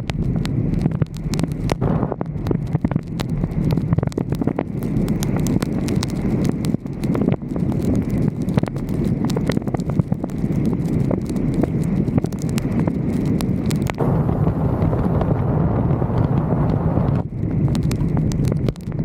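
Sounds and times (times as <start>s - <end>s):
vehicle rumble: 0.0s - 19.0s
wind buffeting microphone: 0.0s - 19.0s.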